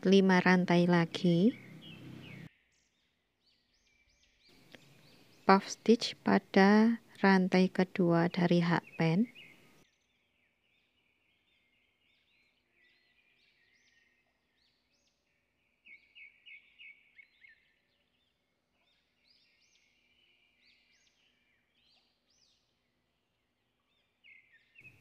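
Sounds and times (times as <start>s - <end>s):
faint bird chirping: 0.0s - 25.0s.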